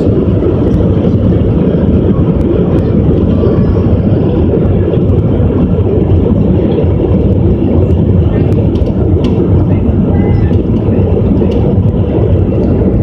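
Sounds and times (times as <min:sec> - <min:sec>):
jet engines roaring in cabin: 0:00.0 - 0:13.0.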